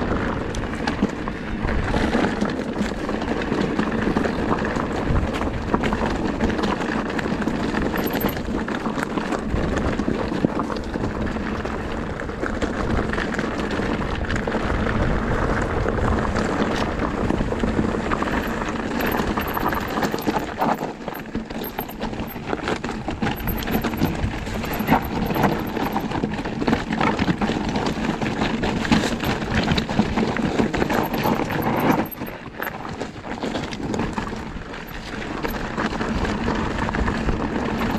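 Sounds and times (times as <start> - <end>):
bike knocking and rattling: 0.0 - 37.9.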